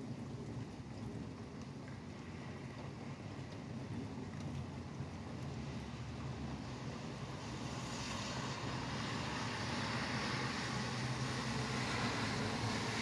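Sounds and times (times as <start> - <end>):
highway traffic on wet road: 2.0 - 13.0.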